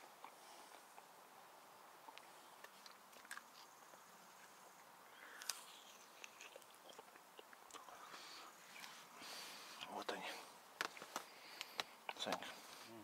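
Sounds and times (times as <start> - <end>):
faint clicks and rustles: 2.0 - 13.0.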